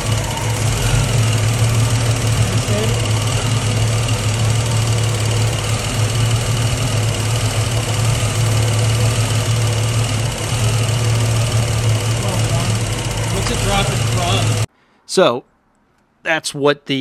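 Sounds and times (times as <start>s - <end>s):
engine running with low hum: 0.0s - 14.7s.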